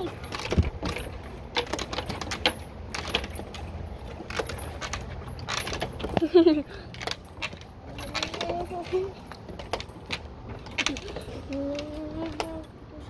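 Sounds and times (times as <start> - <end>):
swing chains clinking: 0.0 - 13.0.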